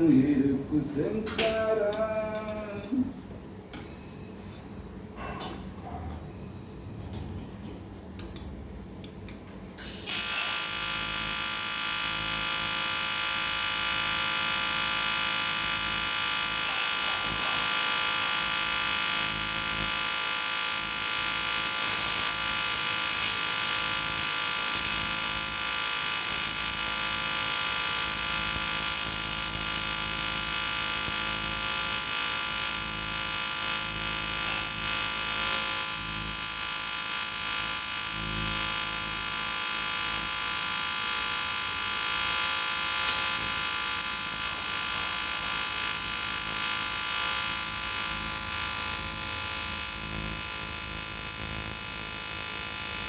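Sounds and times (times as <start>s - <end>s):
welding arc buzzing: 0.9s - 2.9s, 9.7s - 53.0s.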